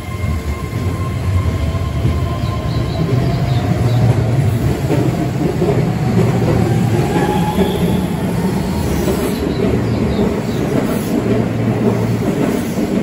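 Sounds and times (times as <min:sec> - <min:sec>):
low rail rumble: 0:00.0 - 0:13.0.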